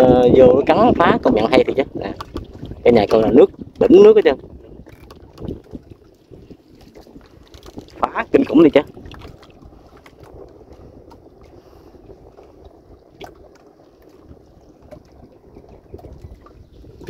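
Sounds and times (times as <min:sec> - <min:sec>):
water lapping against boat: 0:00.0 - 0:17.0.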